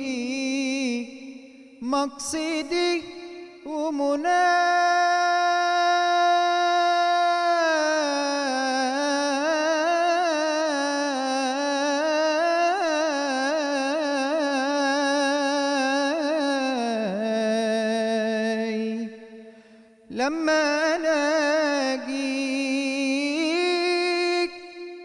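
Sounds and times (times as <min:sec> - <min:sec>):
man singing unaccompanied: 0:00.0 - 0:19.4, 0:20.0 - 0:25.0.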